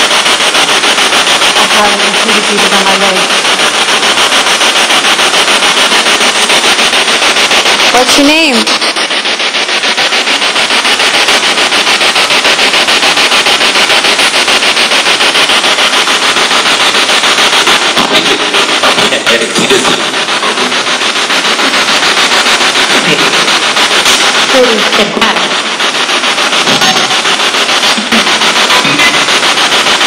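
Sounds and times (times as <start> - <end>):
voice fragment through static: 0.0 - 13.1, 15.1 - 30.0
radio static stuttering: 0.0 - 30.0.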